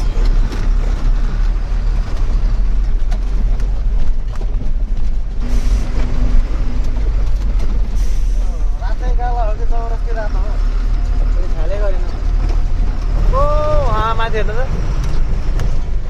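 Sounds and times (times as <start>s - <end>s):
road noise: 0.0s - 16.0s
truck engine running: 0.0s - 16.0s.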